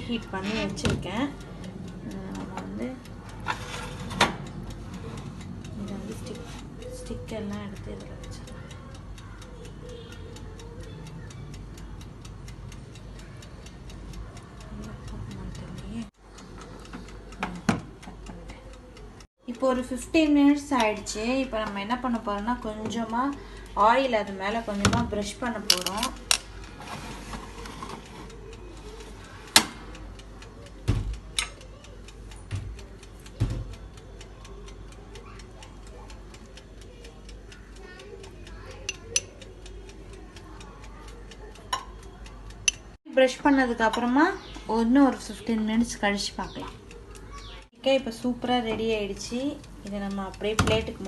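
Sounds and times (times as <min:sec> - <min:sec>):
oven timer ticking: 0:00.0 - 0:51.0
oven tray and skewers clinking: 0:00.0 - 0:51.0.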